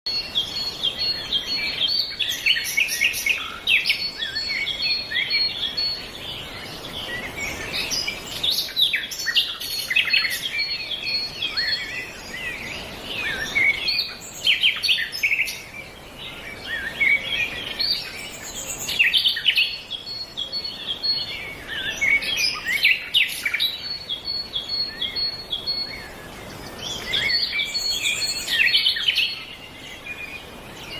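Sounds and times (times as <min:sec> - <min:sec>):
songbirds singing and chirping: 0:00.0 - 0:30.9
faint steady hiss: 0:00.2 - 0:30.9.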